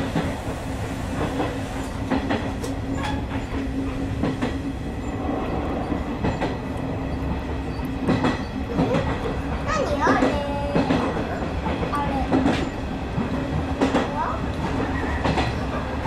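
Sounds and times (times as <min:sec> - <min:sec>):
train rumble and hum: 0:00.0 - 0:16.0
wheels clicking over rail joints: 0:01.2 - 0:16.0.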